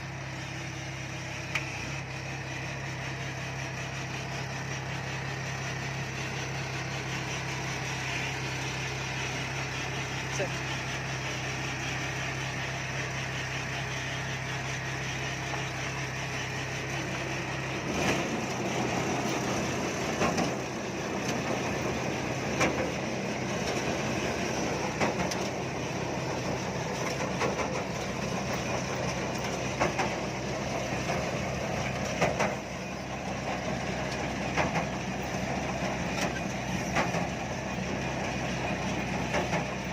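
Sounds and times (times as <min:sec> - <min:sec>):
combine harvester engine humming: 0:00.0 - 0:39.9.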